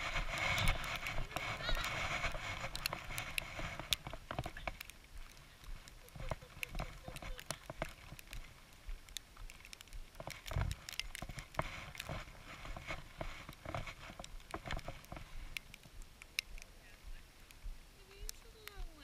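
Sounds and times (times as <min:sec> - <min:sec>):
footsteps in packed snow: 0:00.0 - 0:16.1, 0:16.9 - 0:19.0.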